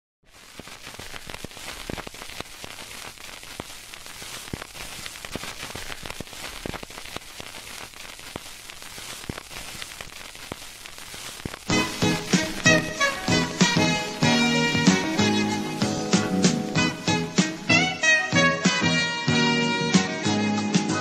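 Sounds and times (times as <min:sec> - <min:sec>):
crackling hiss: 0:00.2 - 0:21.0.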